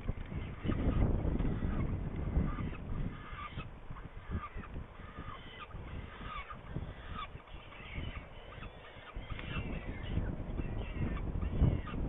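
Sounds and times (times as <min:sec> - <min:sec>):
falcons giving harsh nasal calls: 0:00.3 - 0:12.0.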